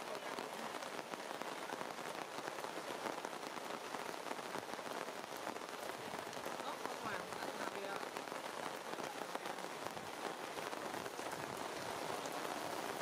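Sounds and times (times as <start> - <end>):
rain falling on leaves: 0.0 - 13.0.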